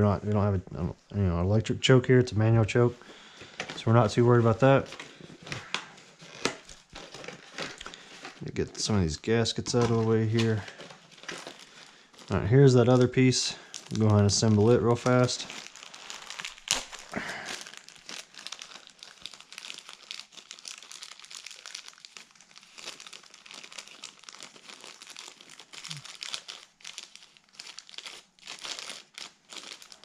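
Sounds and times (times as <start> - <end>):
plastic bag crinkling: 2.7 - 30.0.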